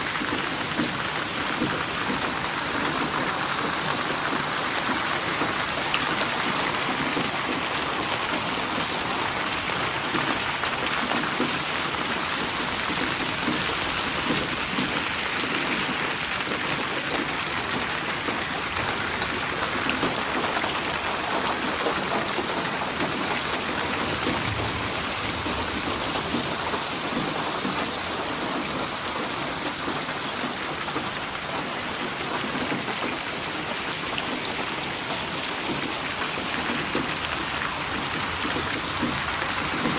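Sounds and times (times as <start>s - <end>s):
rain falling: 0.0s - 39.9s
raindrop ticks: 0.1s - 39.9s.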